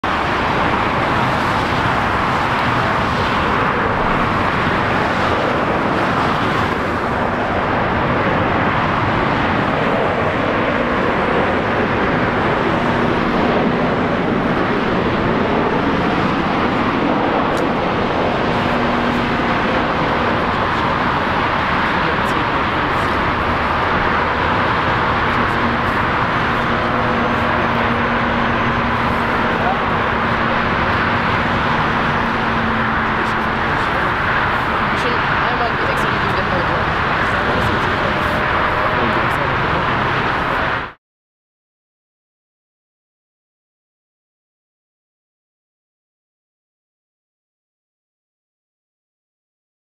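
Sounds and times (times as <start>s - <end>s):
jet engine noise: 0.0s - 41.0s.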